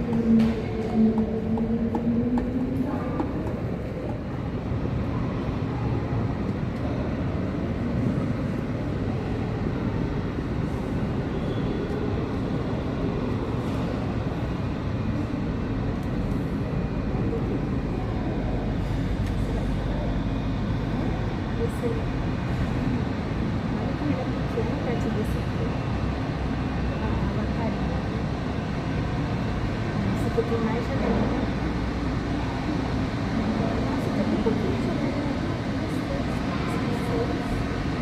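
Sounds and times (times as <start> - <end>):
jet engines rumbling at low power: 0.0 - 38.0.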